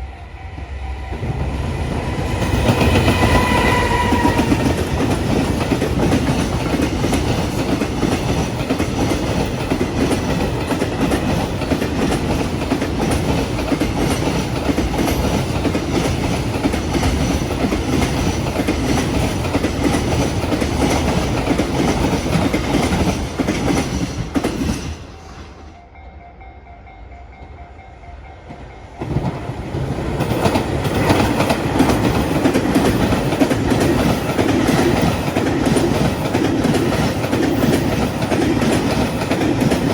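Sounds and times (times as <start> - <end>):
freight train wheels clattering: 1.2 - 25.2, 29.0 - 39.9.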